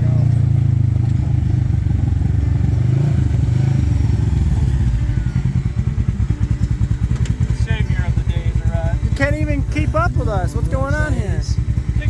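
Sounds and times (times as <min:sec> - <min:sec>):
utility vehicle engine under throttle: 0:00.0 - 0:12.0.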